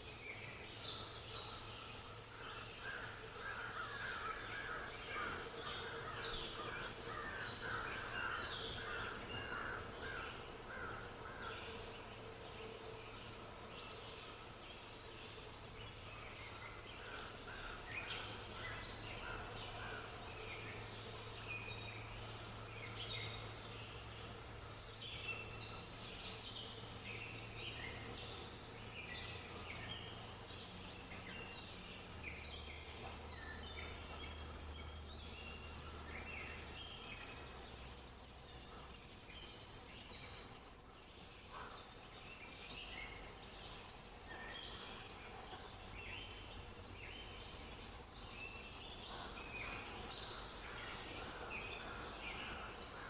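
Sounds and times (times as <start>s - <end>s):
low steady hum: 0.0s - 53.0s
small birds chirping: 0.0s - 53.0s.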